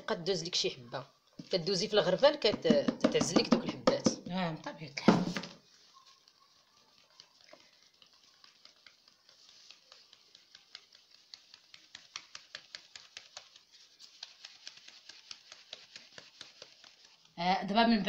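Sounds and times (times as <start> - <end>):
flour sieve tapping and rustling: 1.4 - 18.0.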